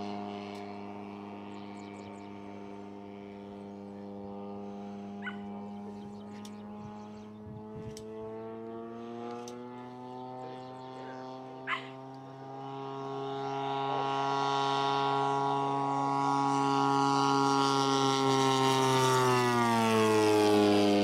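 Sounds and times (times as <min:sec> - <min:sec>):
model airplane engine droning: 0:00.0 - 0:21.0.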